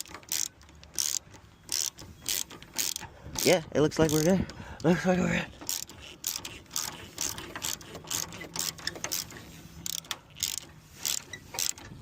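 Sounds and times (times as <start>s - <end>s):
ratchet wrench clicking: 0.0s - 4.9s, 5.5s - 12.0s.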